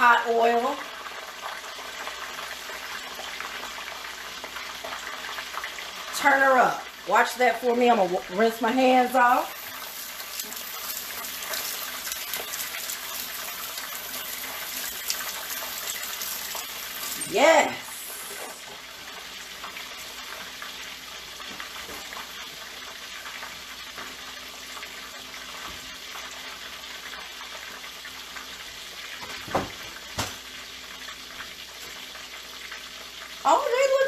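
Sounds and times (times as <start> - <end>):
deep-frying sizzle in oil: 0.0 - 34.0.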